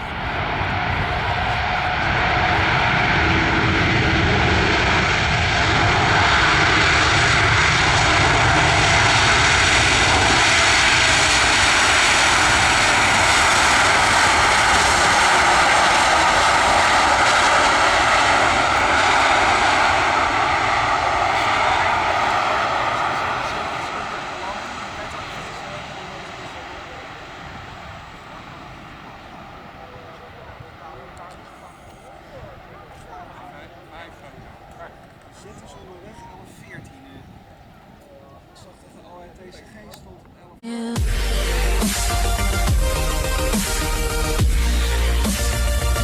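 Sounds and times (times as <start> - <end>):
jet airliner engines roaring overhead: 0.0 - 46.0.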